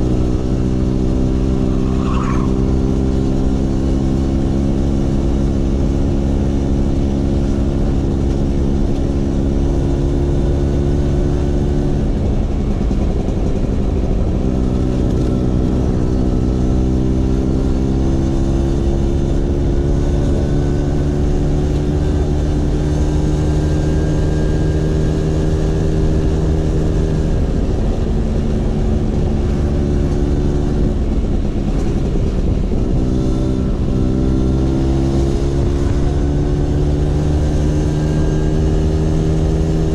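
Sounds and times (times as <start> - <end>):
scooter engine with racing exhaust: 0.0 - 39.9.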